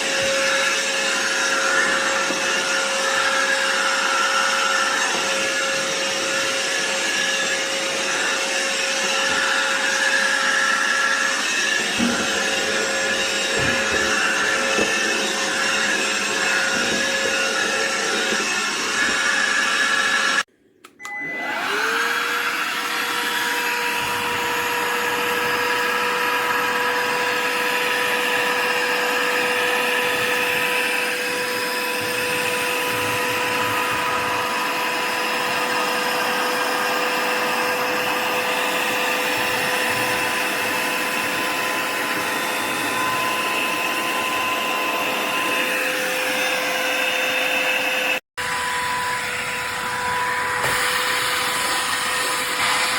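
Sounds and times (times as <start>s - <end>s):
handheld vacuum motor whine: 0.0s - 52.9s.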